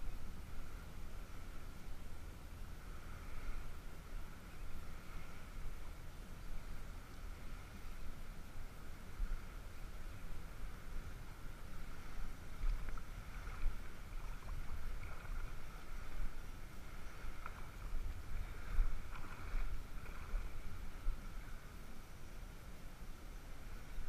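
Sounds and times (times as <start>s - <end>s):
faint mid-pitched hum: 0.0s - 24.0s
wind rumbling on microphone: 0.0s - 24.0s.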